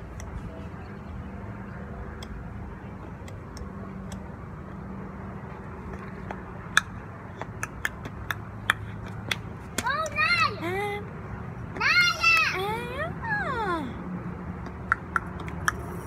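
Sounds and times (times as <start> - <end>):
low urban background hum: 0.0 - 16.0.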